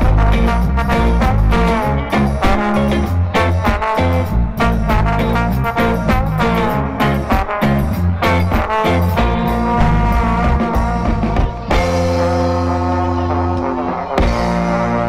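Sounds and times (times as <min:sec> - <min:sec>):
live band playing instrumental: 0:00.0 - 0:15.0.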